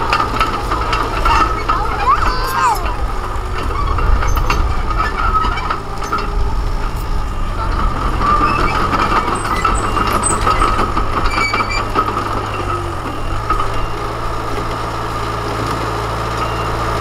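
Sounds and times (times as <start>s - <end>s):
bulldozer diesel engine under load: 0.0s - 17.0s.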